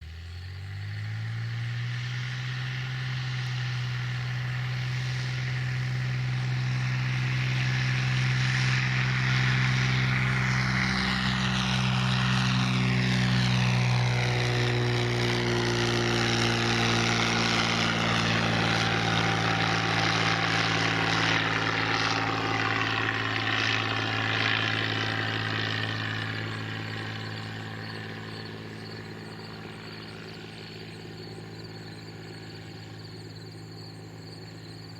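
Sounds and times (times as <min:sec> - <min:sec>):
propeller plane passing: 0:00.0 - 0:34.9.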